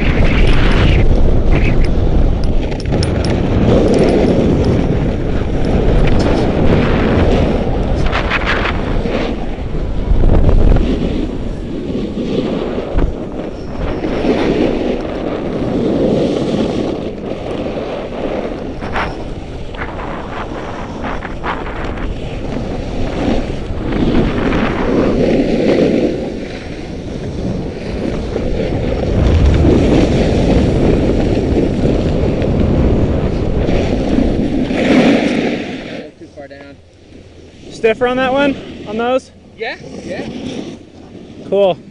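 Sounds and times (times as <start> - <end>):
wind on microphone: 0.0 - 41.9.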